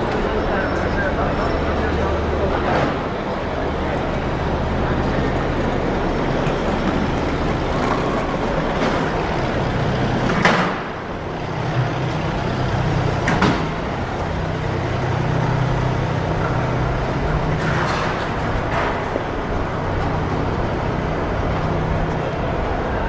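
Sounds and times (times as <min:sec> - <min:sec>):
traffic engines humming: 0:00.0 - 0:23.0.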